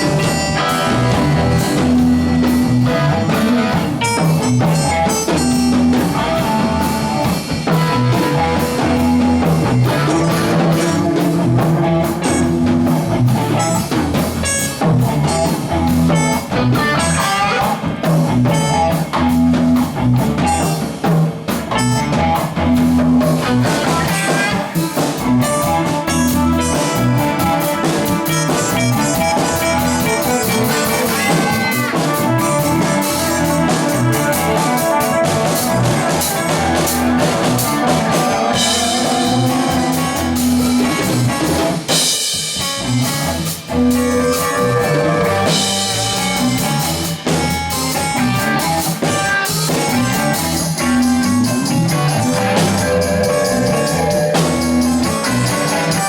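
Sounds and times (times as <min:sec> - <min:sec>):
band jamming: 0:00.0 - 0:56.0.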